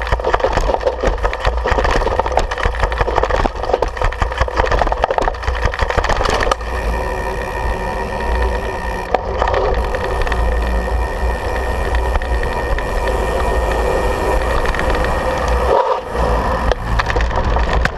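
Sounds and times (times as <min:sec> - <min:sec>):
knobby tyres rolling on pavement: 0:00.0 - 0:17.9
mountain bike rattling: 0:00.0 - 0:17.9.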